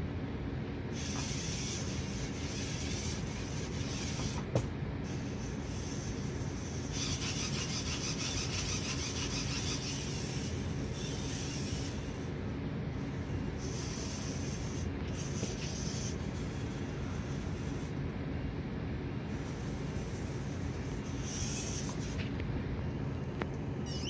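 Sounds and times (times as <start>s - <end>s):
servo motors whirring: 0.9s - 12.3s, 13.0s - 18.0s, 19.3s - 22.4s.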